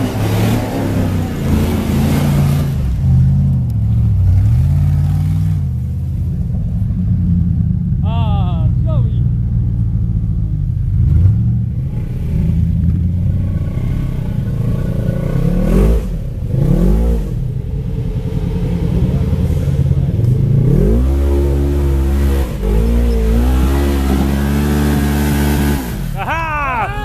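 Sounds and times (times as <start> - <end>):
utility vehicle engine revving: 0.0 - 27.0.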